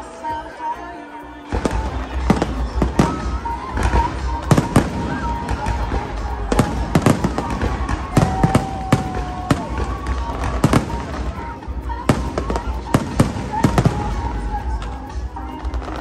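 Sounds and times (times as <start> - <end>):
fireworks bursting bangs: 1.4 - 16.0.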